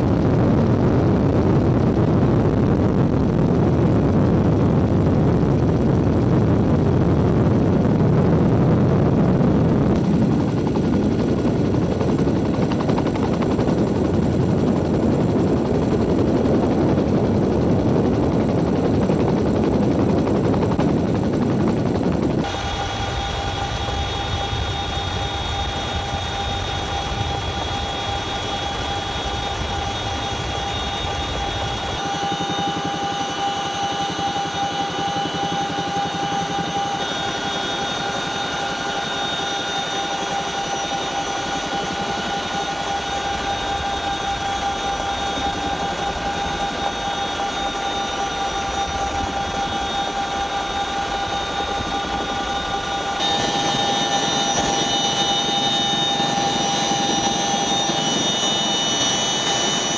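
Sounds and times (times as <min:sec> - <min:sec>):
helicopter rotors and engines rumbling: 0:00.0 - 0:59.9
high turbine whine: 0:00.0 - 0:59.9.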